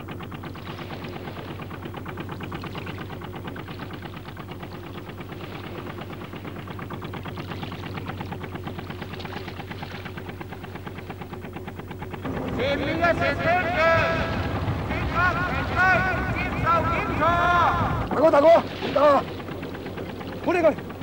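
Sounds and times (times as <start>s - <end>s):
boat engine chugging: 0.0s - 21.0s.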